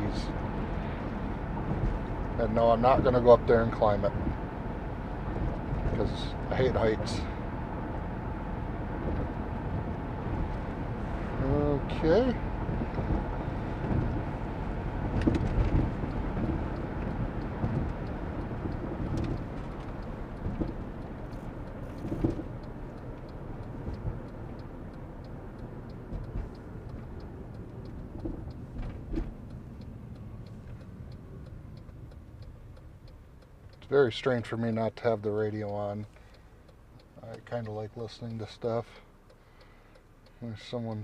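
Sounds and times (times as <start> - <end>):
vehicle road and engine rumble: 0.0 - 41.0
faint regular ticking interference: 0.1 - 41.0.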